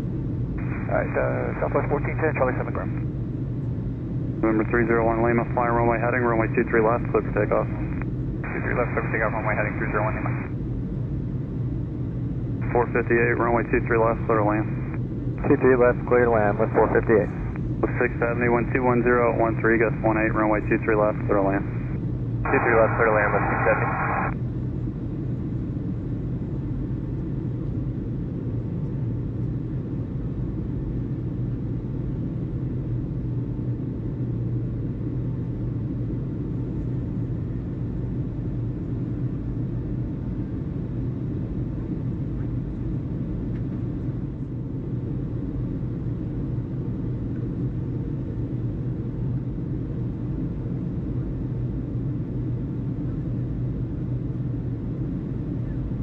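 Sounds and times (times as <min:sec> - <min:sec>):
steady low rumble with hum: 0:00.0 - 0:56.0.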